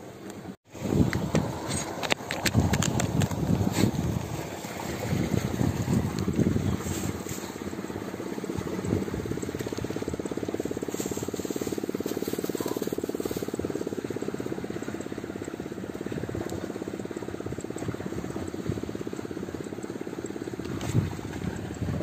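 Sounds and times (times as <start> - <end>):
small engine chugging: 1.0 - 22.0.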